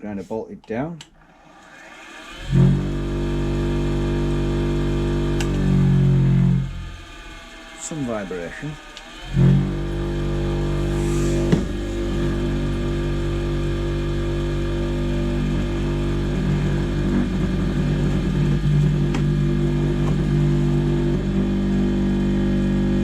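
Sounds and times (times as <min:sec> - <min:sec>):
bench grinder motor hum: 0:01.2 - 0:23.0
fluttering vibration rattle: 0:01.9 - 0:21.5.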